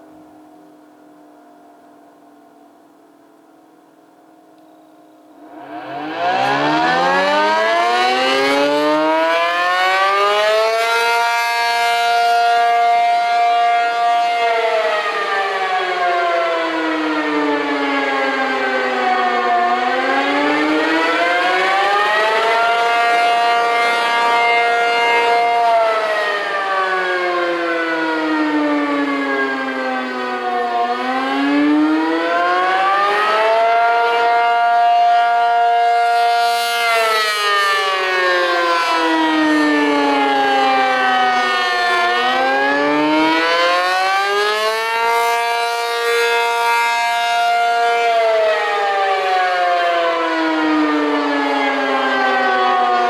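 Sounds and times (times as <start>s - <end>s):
dual-tone warning siren: 0.0s - 53.0s.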